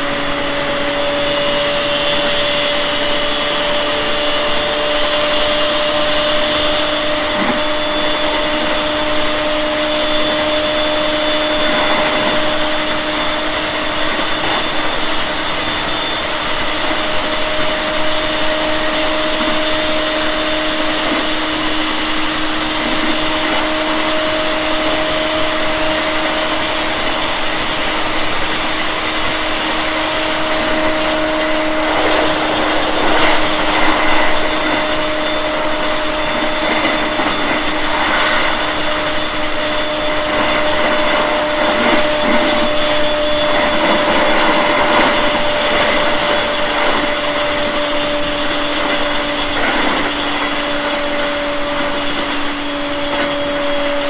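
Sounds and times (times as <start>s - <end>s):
electric train whining: 0.0s - 54.0s
train rolling noise: 0.0s - 54.0s.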